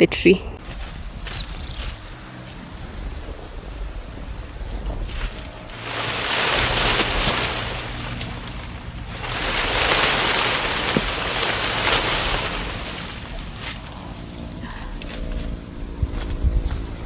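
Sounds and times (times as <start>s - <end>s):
leafy branches rustling: 0.6s - 17.0s.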